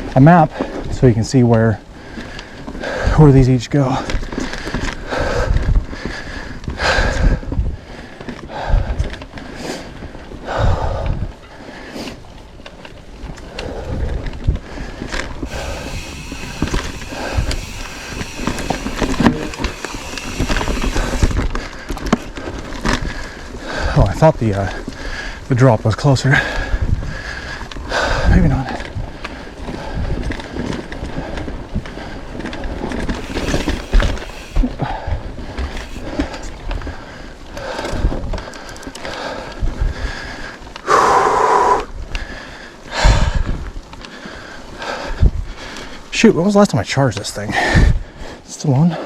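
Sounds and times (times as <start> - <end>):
bike knocking and rattling: 0.0 - 11.6, 12.2 - 40.5
bike tyres rumbling on dirt: 0.0 - 46.2.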